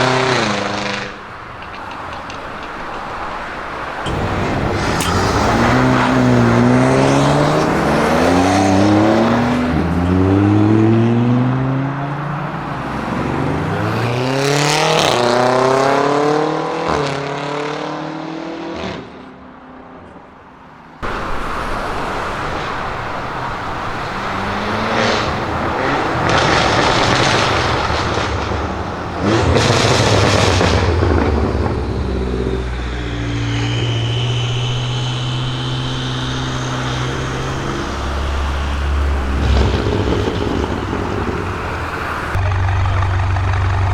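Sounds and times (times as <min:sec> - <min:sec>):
car engine accelerating hard: 0:03.0 - 0:19.1, 0:21.0 - 0:43.9.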